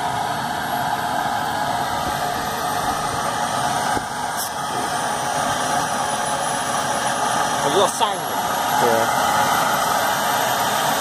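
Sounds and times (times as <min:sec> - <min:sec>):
helicopter rotors turning: 0:00.0 - 0:11.0
helicopter turbine whine: 0:00.0 - 0:11.0.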